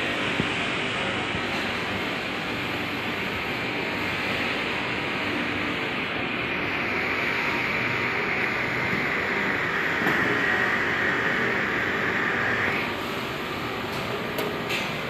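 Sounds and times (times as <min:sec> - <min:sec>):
conveyor machine whining: 0:00.0 - 0:15.0.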